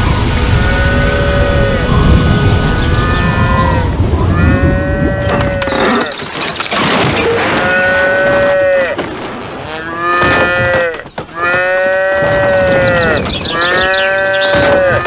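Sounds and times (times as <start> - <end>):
cows mooing: 0.6 - 6.2, 7.5 - 9.0, 9.6 - 15.0.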